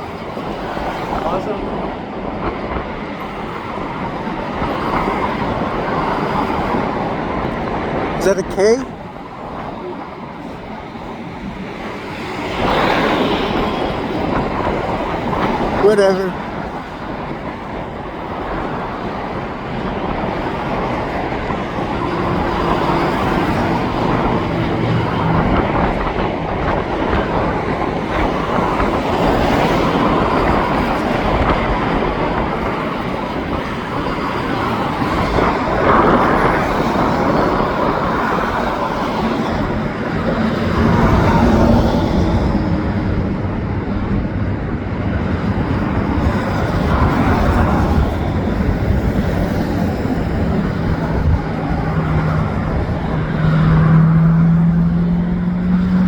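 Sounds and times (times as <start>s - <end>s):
highway traffic: 0.0s - 56.0s.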